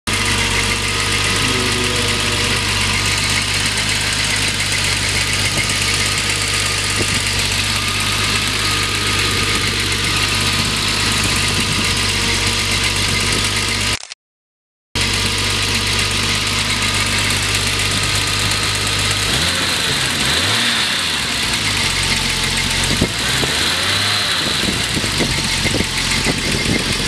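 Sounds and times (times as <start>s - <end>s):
car engine idling: 0.1s - 14.0s, 15.0s - 27.0s.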